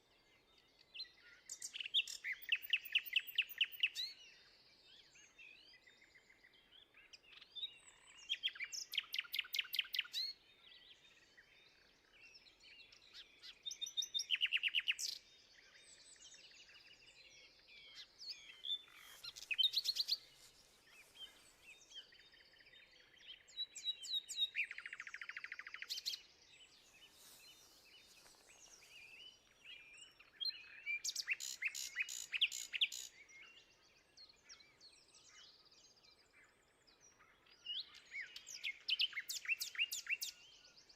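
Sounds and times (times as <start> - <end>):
faint bird chirps: 0.0 - 40.9
songbird trilling song: 0.0 - 40.9.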